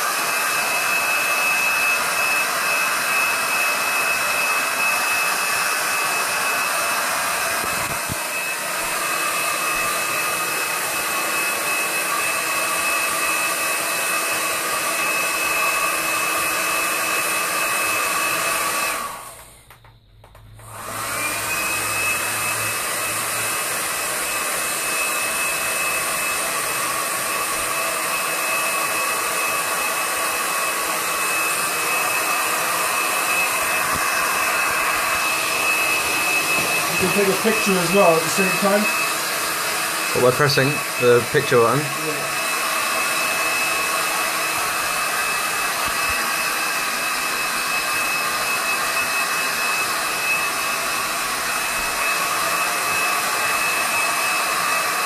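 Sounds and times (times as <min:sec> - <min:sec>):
heat gun fan whining: 0:00.0 - 0:55.0.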